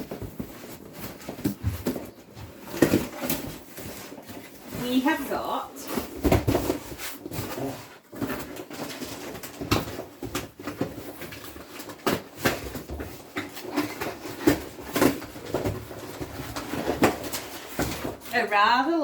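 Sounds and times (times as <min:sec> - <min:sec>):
box packaging rustling and scraping: 0:00.0 - 0:19.0.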